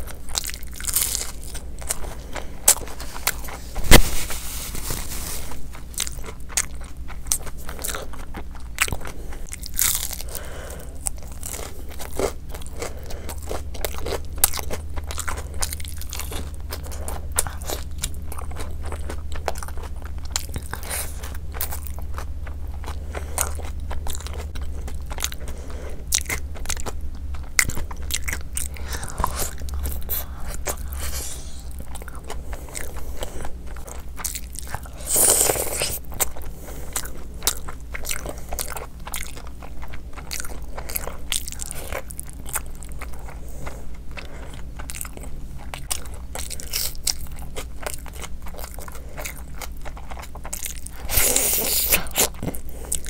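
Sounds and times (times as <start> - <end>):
crunchy chewing of fried meat: 0.0 - 53.0.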